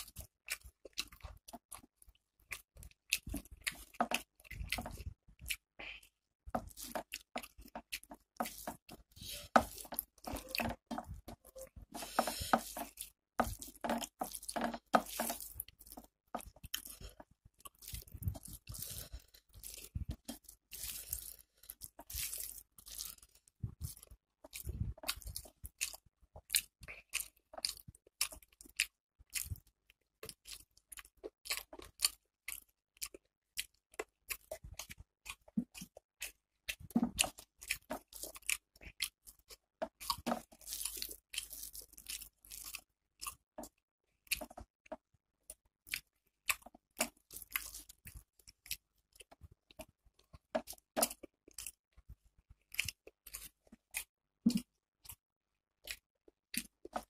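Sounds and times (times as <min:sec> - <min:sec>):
wet chewing and smacking: 0:00.0 - 0:55.2, 0:55.8 - 0:57.0.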